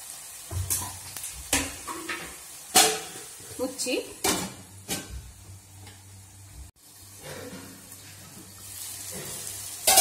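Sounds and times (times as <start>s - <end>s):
onion and tomato frying in oil: 0.0s - 10.0s.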